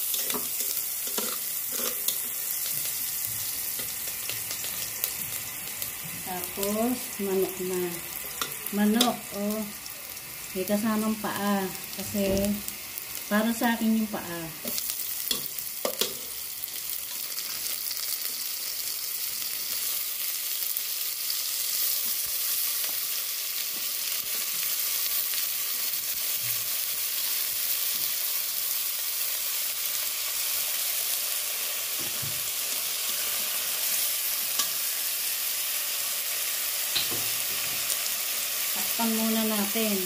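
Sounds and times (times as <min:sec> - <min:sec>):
chicken sizzling in hot oil: 0:00.0 - 0:40.0.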